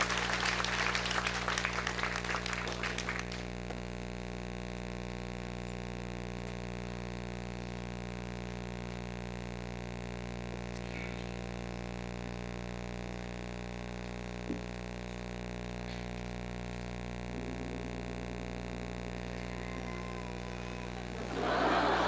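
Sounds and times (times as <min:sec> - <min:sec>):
electrical hum and hiss: 0:00.0 - 0:22.0.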